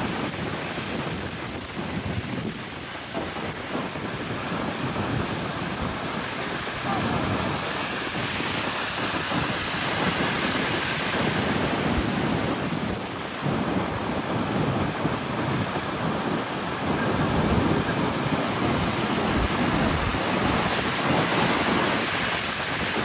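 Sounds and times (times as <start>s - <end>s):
ocean waves breaking: 0.0s - 23.0s
wind rumbling on microphone: 0.0s - 23.0s.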